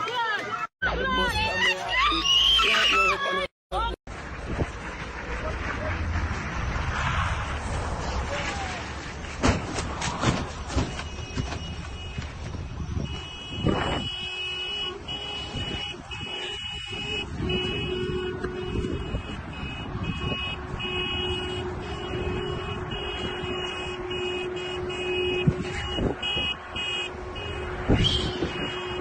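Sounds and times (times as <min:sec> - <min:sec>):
vehicle driving noise: 0:03.8 - 0:29.0.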